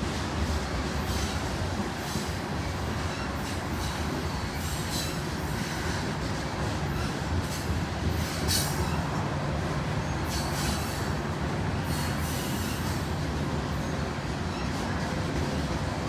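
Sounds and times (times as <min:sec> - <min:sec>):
train cars rolling on track: 0:00.0 - 0:16.0.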